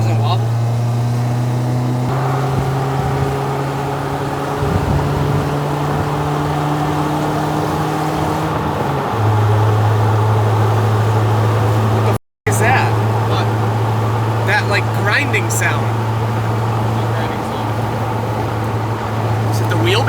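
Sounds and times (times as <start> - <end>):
car engine droning in cabin: 0.0 - 20.0
tyre and road noise: 0.0 - 20.0.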